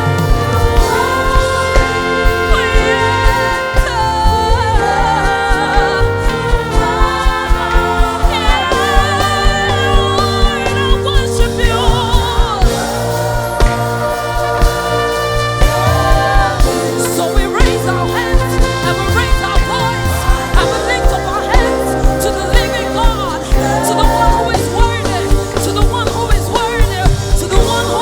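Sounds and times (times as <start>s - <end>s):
singers holding wavering notes: 0.0s - 19.0s, 19.8s - 26.7s
gospel band playing: 0.0s - 28.0s.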